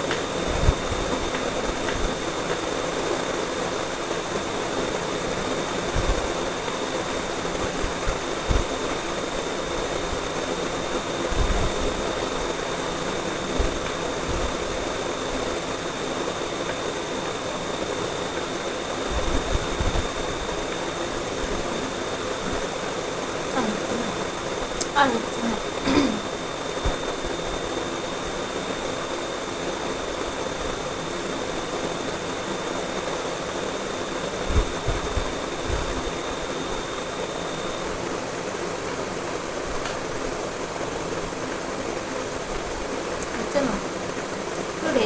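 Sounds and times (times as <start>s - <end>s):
steady background hiss: 0.0s - 45.0s
thin high whine: 0.0s - 45.0s.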